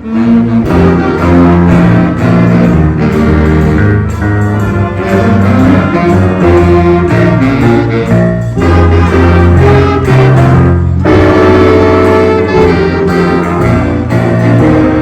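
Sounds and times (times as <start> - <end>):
instrumental ensemble playing: 0.0 - 15.0.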